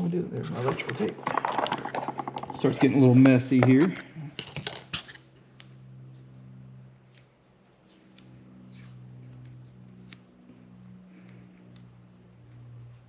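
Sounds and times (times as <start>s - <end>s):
steady low hum: 0.0s - 13.0s
wires and tape rustling: 0.0s - 13.0s.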